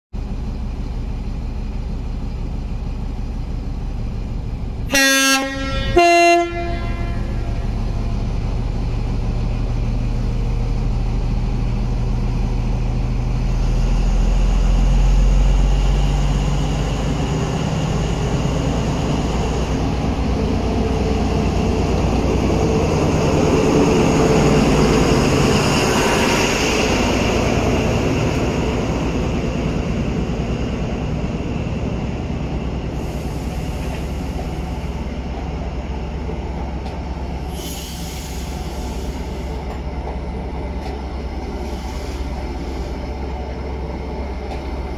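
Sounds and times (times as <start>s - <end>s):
diesel train engine running: 0.2s - 44.9s
train coaches rolling past: 0.2s - 44.9s.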